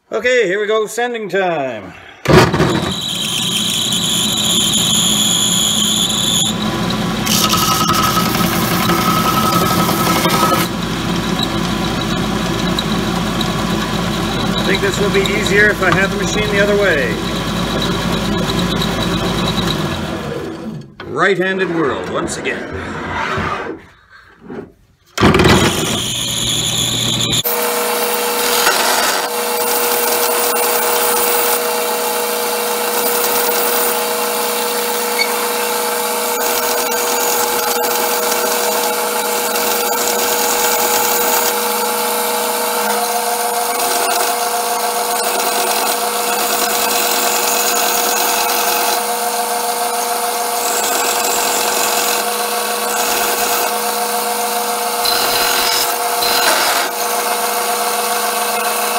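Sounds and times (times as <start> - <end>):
sander motor hum: 2.6 - 20.6, 25.2 - 58.9.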